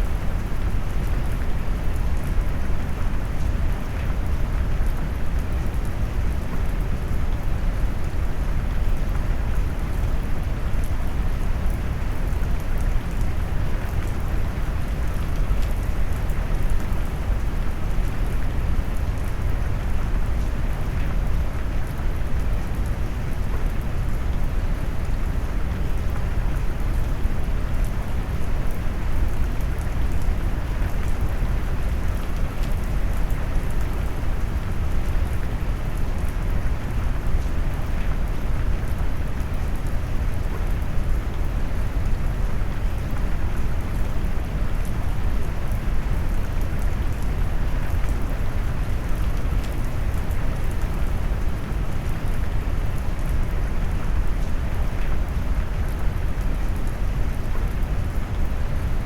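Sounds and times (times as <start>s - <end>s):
faint raindrop ticks: 0.0s - 59.0s.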